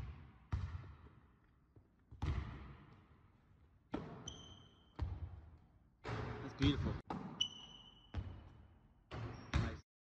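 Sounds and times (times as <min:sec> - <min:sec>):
basketball bouncing on gym floor: 0:00.0 - 0:03.2, 0:03.9 - 0:09.8.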